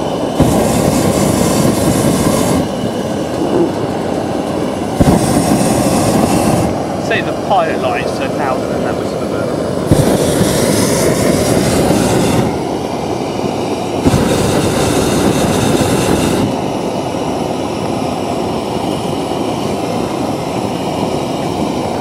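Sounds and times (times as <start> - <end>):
hissy burner blast: 0.0 - 22.0
propane burner roaring: 0.0 - 22.0.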